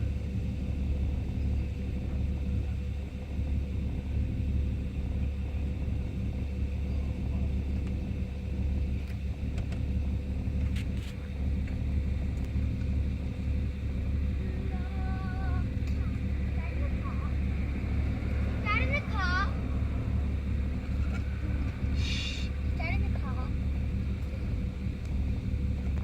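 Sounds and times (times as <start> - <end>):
car engine idling roughly: 0.0 - 26.0.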